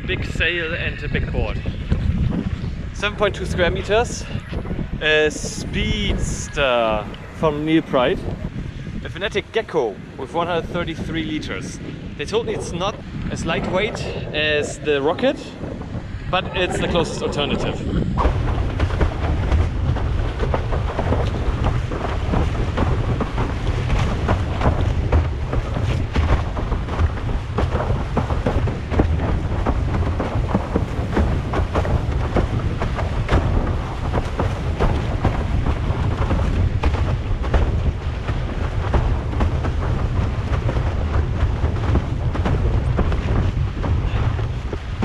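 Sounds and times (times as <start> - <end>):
water rushing under board: 0.0 - 45.0
wind buffeting microphone: 0.0 - 45.0
water splashes and slaps: 1.8 - 45.0.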